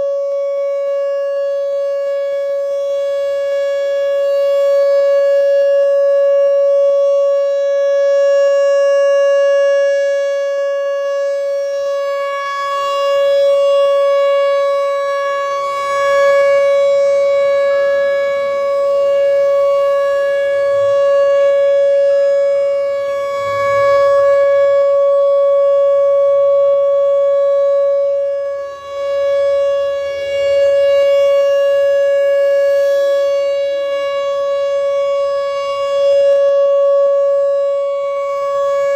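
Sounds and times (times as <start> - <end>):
outdoor warning siren steady tone: 0.0 - 38.9.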